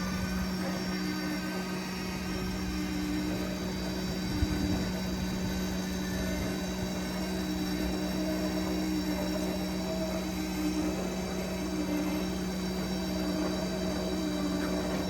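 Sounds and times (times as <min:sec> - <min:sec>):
machine engine droning: 0:00.0 - 0:15.0.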